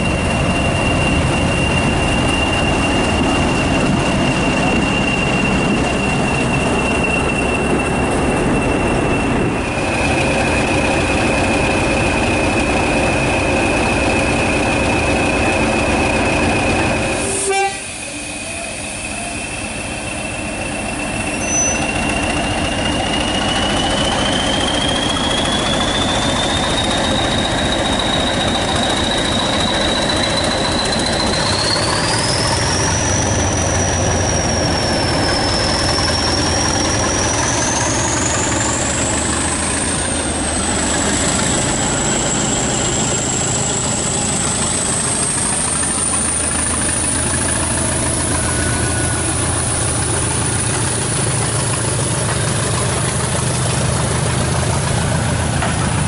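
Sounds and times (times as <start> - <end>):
turbocharger whistle: 0.0 - 53.1
diesel locomotive engine rumble: 0.0 - 56.0.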